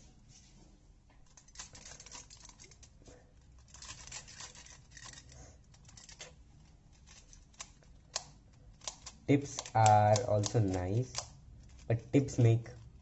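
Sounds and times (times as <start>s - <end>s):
plastic puzzle clicks and scrapes: 1.2s - 13.0s.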